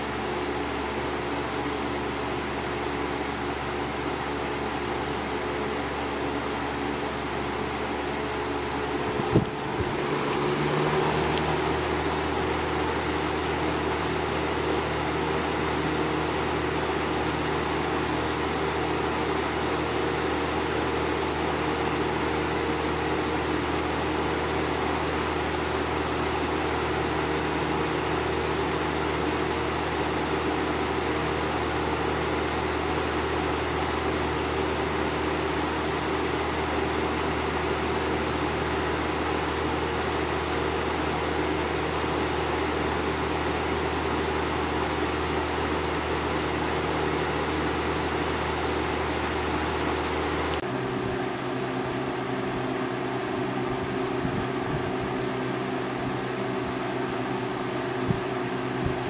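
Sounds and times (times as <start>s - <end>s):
box fan humming: 0.0s - 59.0s.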